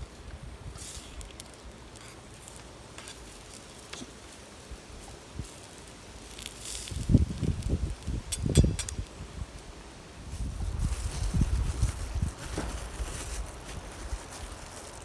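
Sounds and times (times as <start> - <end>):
wood fire crackling: 0.0 - 15.0
fire pops: 0.1 - 14.8.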